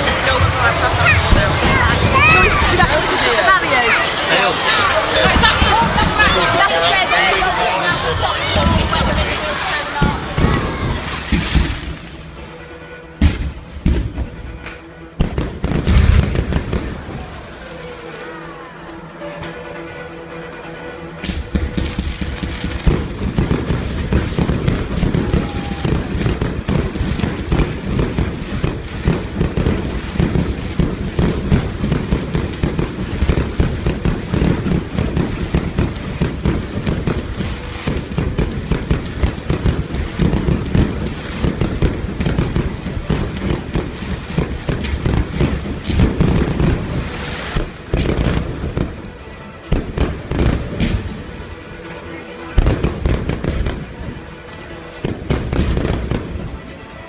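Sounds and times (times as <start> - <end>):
fireworks bangs and crackles: 0.0 - 19.8, 21.1 - 57.0
music playing: 0.0 - 57.0.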